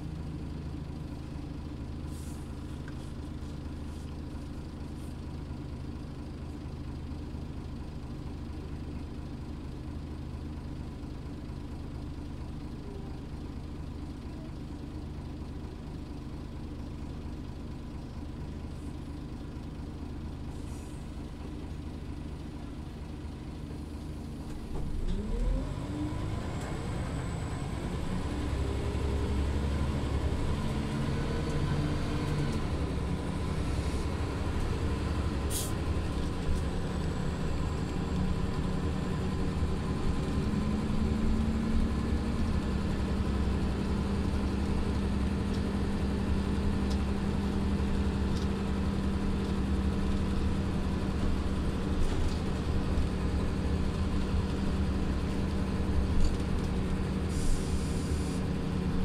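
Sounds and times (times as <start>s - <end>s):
bus engine idling and revving: 0.0s - 59.0s.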